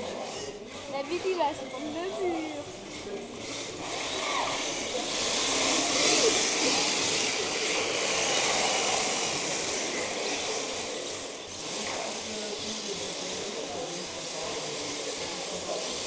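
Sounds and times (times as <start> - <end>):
toy car motors whining: 0.0 - 16.0
hard tyres hissing on floor: 3.0 - 16.0.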